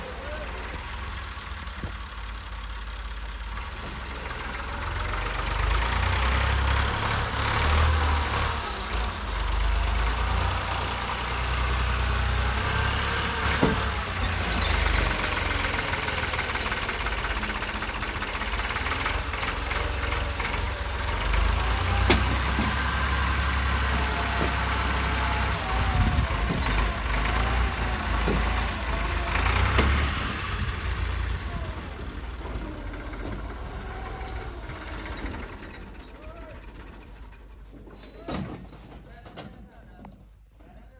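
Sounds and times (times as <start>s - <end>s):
tractor diesel engine rumbling: 0.0s - 40.9s.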